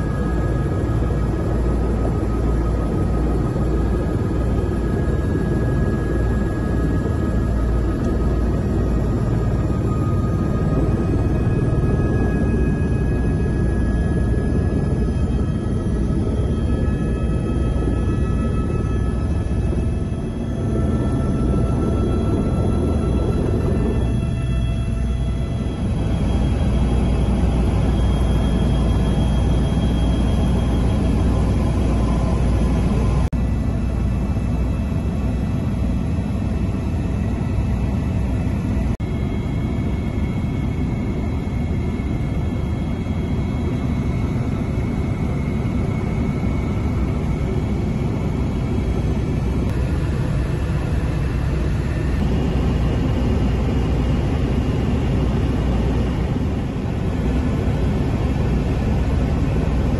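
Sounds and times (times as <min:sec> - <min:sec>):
faint high whine: 0:00.0 - 0:59.9
helicopter rotor and turbine: 0:00.0 - 0:59.9.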